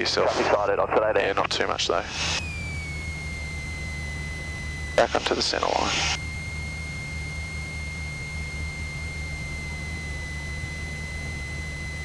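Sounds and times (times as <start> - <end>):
aircraft engine drone: 0.4 - 12.0
high-pitched whine: 1.4 - 12.0.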